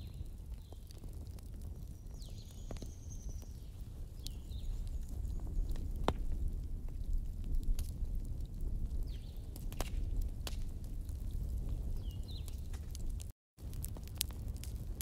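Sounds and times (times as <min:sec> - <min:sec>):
fire crackling pops: 0:00.0 - 0:15.0
wood fire rumbling: 0:00.0 - 0:15.0.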